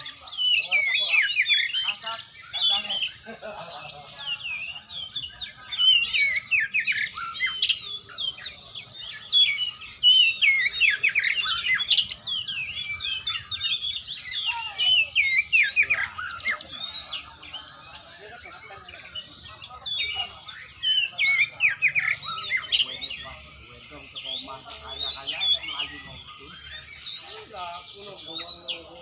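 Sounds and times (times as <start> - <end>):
bird singing whistles and chirps: 0.0 - 29.0.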